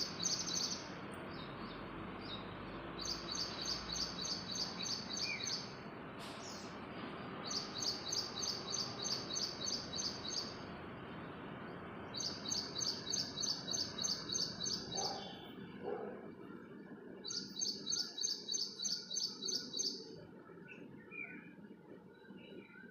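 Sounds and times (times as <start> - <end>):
songbird chirping: 0.0 - 22.9.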